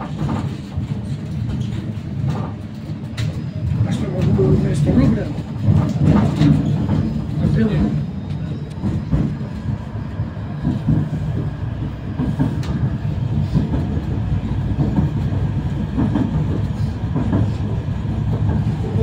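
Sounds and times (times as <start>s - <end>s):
tram wheels rumbling: 0.0s - 19.0s.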